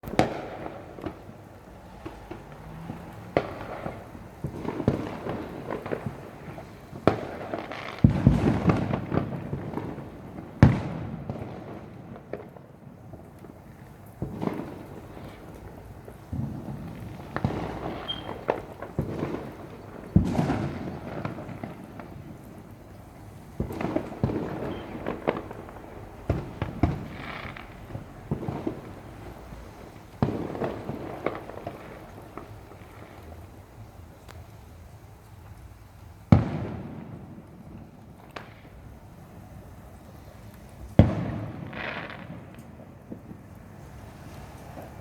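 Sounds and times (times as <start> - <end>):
fireworks bangs: 0.0 - 45.0
fireworks crackling: 0.0 - 45.0.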